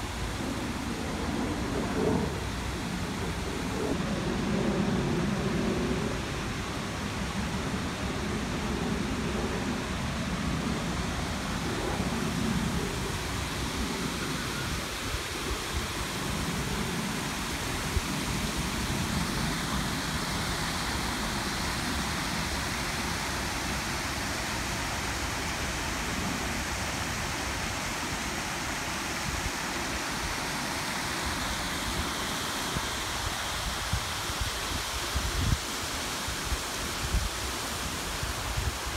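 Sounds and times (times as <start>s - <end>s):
waterfall rushing into pool: 6.1s - 38.9s.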